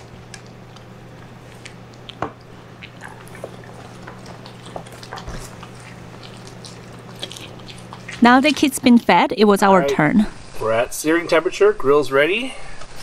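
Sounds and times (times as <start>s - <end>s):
dogs chewing food: 0.0s - 10.4s.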